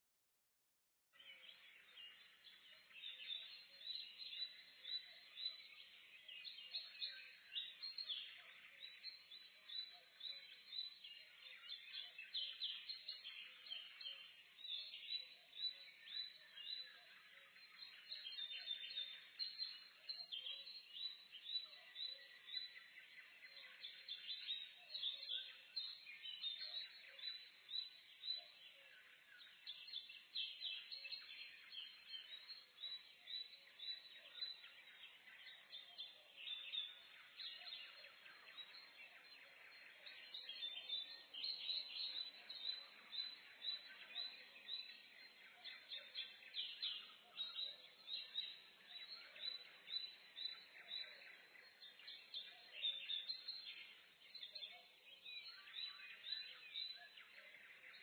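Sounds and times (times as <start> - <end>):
songbirds chirping and singing: 1.2 - 58.0.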